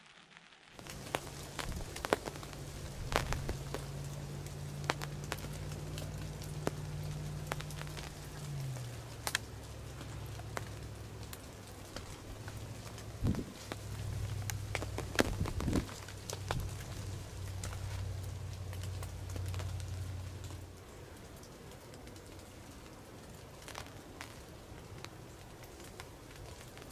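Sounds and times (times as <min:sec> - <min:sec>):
rain hissing: 0:00.0 - 0:26.9
raindrops tapping on fabric: 0:00.1 - 0:26.9
low steady hum: 0:00.8 - 0:26.9.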